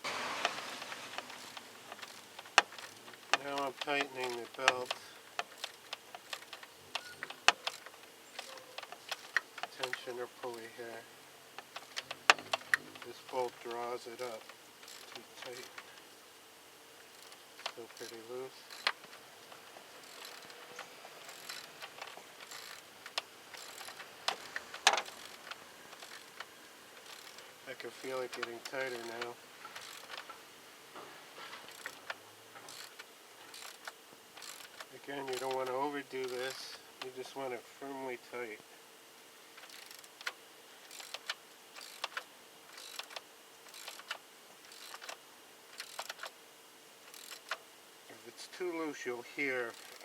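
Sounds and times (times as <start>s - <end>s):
socket wrench ratcheting: 0.8s - 11.0s, 11.6s - 15.8s, 17.1s - 30.3s, 31.7s - 37.1s, 39.6s - 46.4s, 47.1s - 47.6s, 49.4s - 50.0s.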